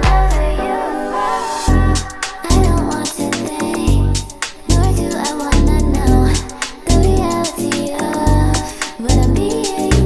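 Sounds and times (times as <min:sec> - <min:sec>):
song with heavy bass and beat: 0:00.0 - 0:10.0.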